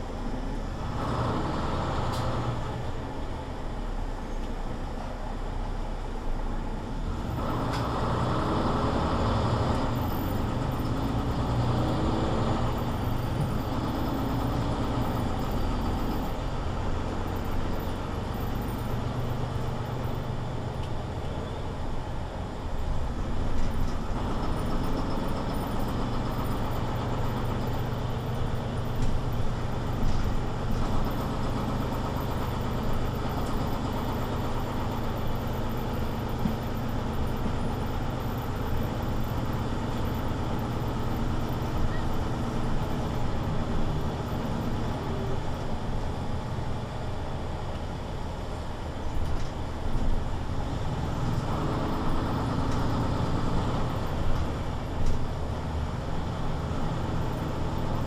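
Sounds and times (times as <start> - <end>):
bus engine hum: 0.0 - 58.0.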